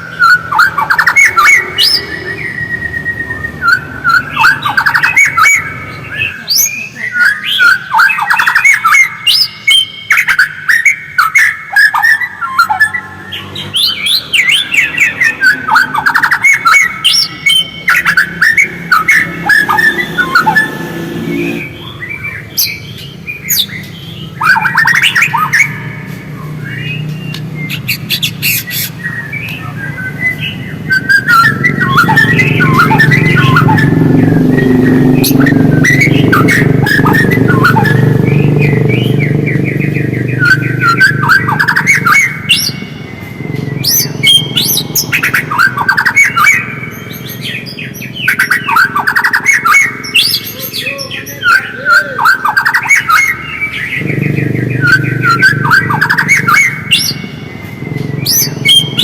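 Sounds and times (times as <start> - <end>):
songbird singing whistled notes: 0.0 - 59.0.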